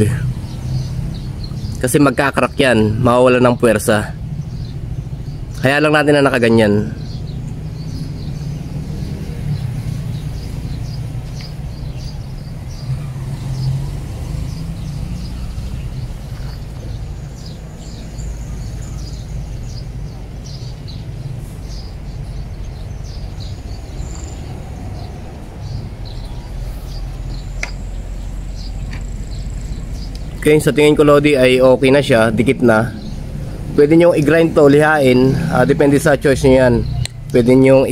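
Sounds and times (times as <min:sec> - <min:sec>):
steady low rumble: 0:00.0 - 0:13.2, 0:14.5 - 0:37.6
high bird chirps: 0:00.0 - 0:37.9.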